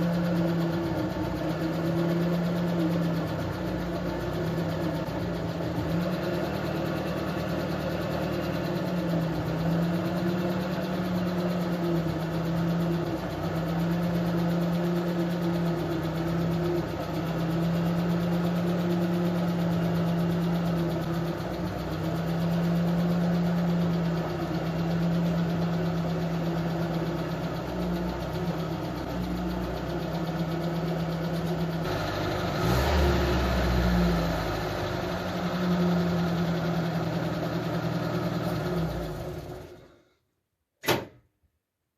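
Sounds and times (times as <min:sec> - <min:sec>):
off-road vehicle engine running: 0:00.0 - 0:39.8.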